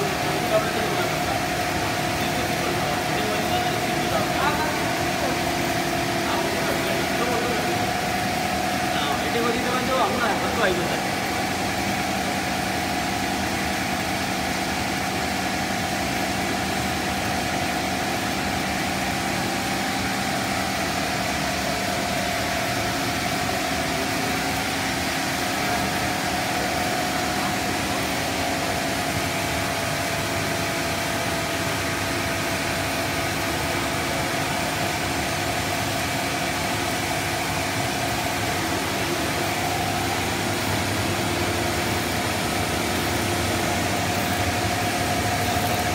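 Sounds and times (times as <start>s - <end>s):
steady whir of machinery: 0.0s - 45.9s.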